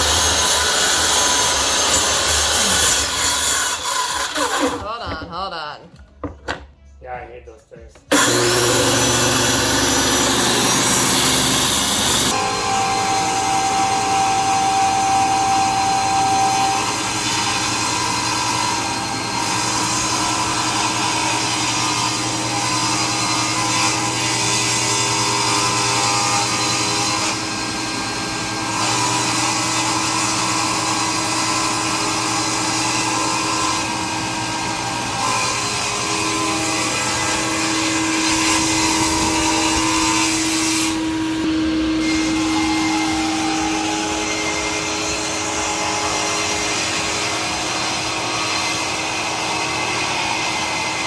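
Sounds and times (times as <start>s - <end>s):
power saw cutting wood: 0.0s - 5.0s, 8.1s - 51.0s.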